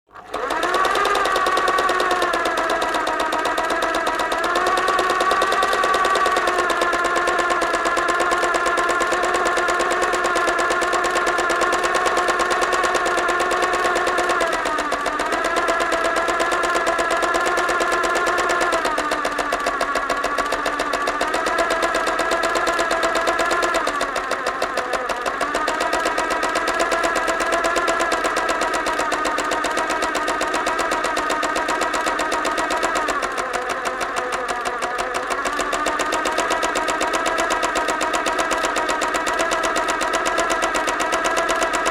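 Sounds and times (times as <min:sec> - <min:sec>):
electric sewing machine stitching: 0:00.1 - 0:41.9.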